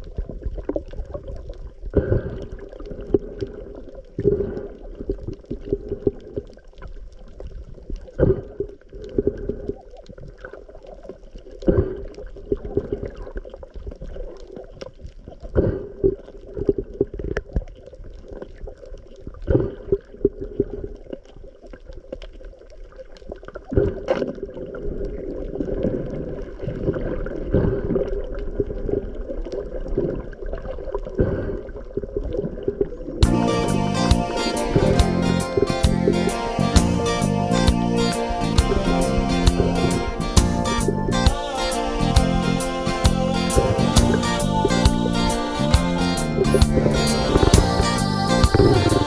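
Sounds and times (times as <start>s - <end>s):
water sloshing and gurgling: 0.0s - 33.4s, 37.7s - 41.5s, 42.3s - 49.0s.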